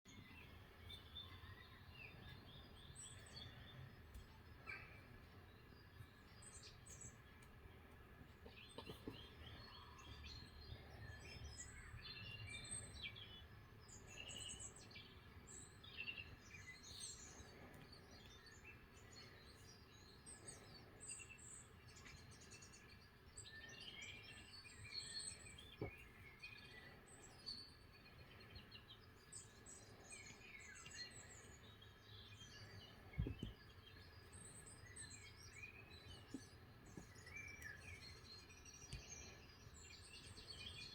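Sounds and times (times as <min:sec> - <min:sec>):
songbird chirps from tv: 0:00.1 - 0:40.9.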